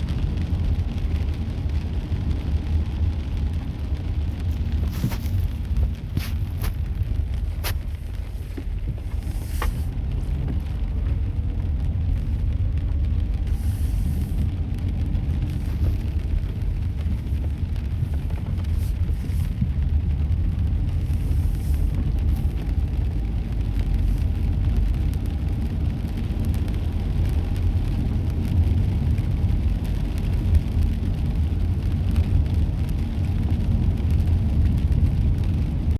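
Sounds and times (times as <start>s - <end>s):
light rain falling: 0.0s - 35.9s
steady low rumble: 0.0s - 35.9s.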